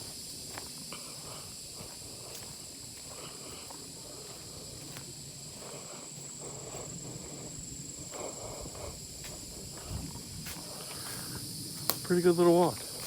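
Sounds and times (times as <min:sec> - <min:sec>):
footsteps on woodland trail: 0:00.0 - 0:13.0
high-pitched insect drone: 0:00.0 - 0:13.0.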